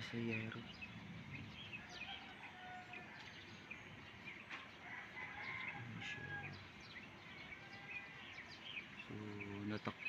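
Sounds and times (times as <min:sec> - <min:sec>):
birds chirping: 0:00.0 - 0:10.0
drawn-out bird call: 0:00.0 - 0:10.0.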